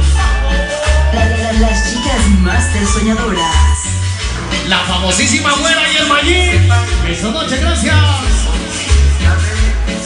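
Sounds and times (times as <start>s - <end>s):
latin dance music: 0.0s - 10.0s.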